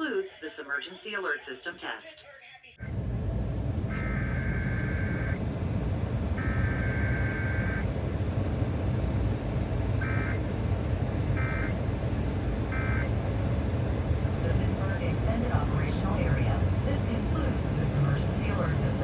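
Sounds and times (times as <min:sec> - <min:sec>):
loud steady low rumble: 0:02.8 - 0:19.0.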